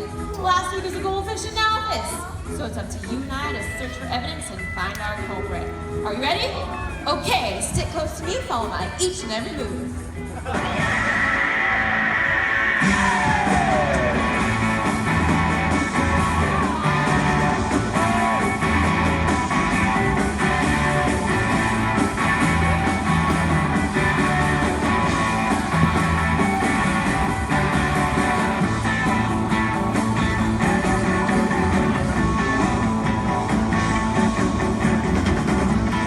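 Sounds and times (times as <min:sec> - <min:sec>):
rock music over loudspeakers: 0:00.0 - 0:36.0.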